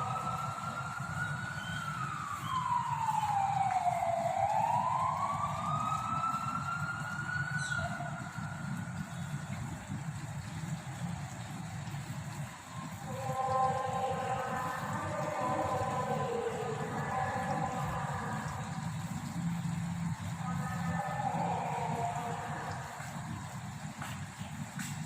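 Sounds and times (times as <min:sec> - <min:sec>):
siren-like wail over loudspeaker: 0:00.0 - 0:25.0.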